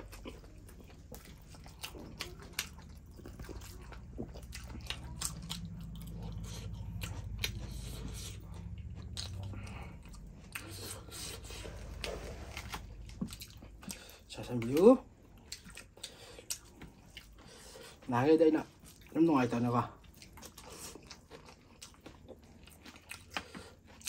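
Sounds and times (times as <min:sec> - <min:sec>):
low steady hum: 0:00.0 - 0:24.0
people chewing and biting: 0:00.0 - 0:24.0.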